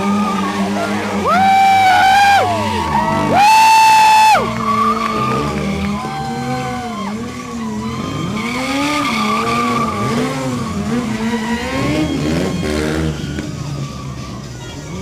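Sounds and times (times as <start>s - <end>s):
motorcycle engine revving: 0.0s - 15.0s
tyre squealing on pavement: 0.0s - 15.0s.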